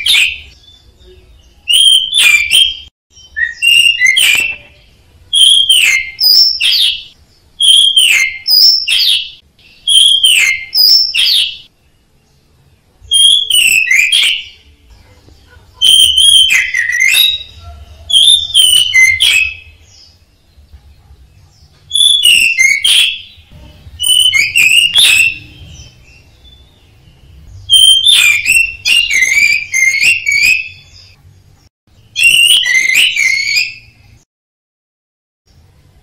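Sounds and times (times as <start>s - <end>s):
thrush singing whistled notes: 0.0s - 11.7s, 13.1s - 14.8s, 15.8s - 20.2s, 21.9s - 31.2s, 32.0s - 34.2s.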